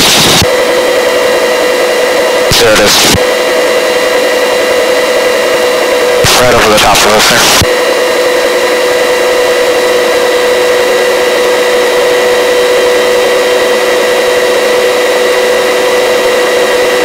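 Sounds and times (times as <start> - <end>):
helicopter in flight: 0.0 - 17.0.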